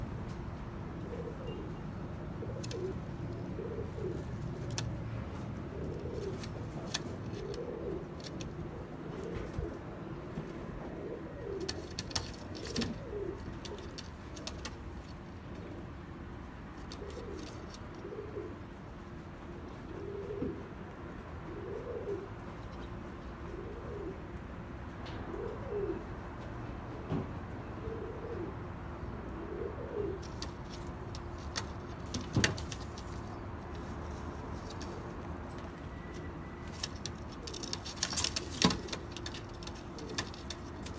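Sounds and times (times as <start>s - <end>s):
pigeons cooing: 0.9s - 15.0s, 16.8s - 18.8s, 19.7s - 24.3s, 25.1s - 26.2s, 27.6s - 40.9s.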